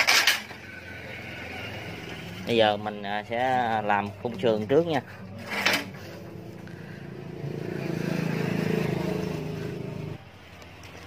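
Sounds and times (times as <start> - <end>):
vehicle engine running: 0.8 - 10.3.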